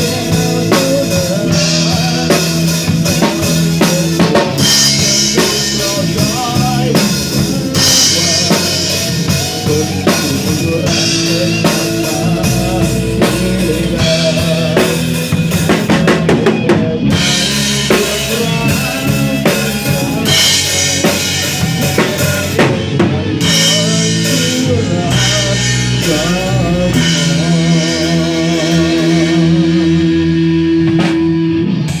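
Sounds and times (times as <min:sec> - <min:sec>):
band playing pop-rock: 0:00.0 - 0:32.0
drum kit: 0:00.0 - 0:32.0.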